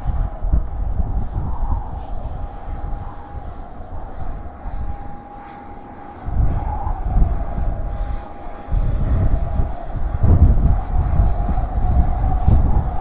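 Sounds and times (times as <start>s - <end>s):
jet engines whining: 0.0s - 13.0s
wind buffeting microphone: 0.0s - 13.0s.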